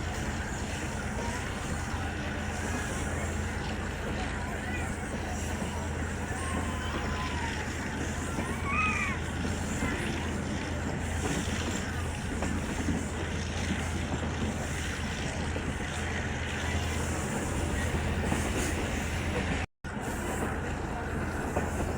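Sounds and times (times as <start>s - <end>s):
moving train rumble: 0.0s - 21.9s.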